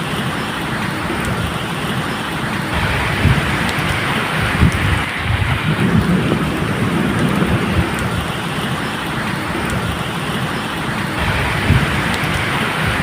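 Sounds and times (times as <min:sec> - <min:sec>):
steady rain: 0:00.0 - 0:13.0
thunder rumbling: 0:02.5 - 0:13.0.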